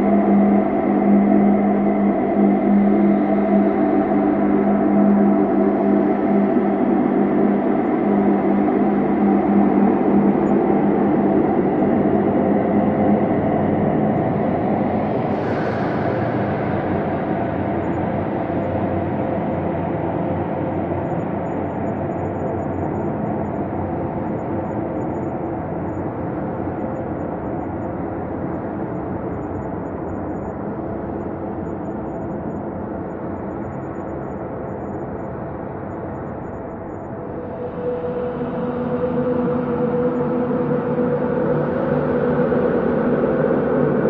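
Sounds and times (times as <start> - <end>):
low layered drone: 0.0 - 44.0.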